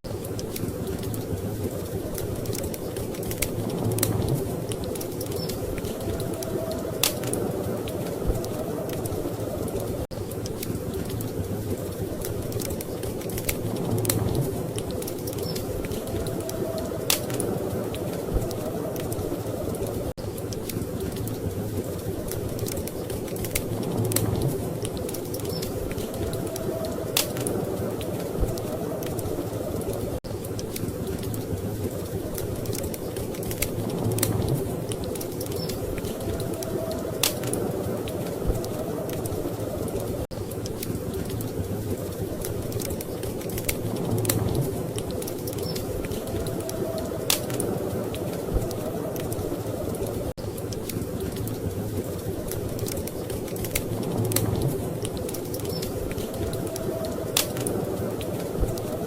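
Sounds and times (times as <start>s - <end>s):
storm wind rumble: 0.0s - 59.0s
wood fire crackling: 0.0s - 59.0s.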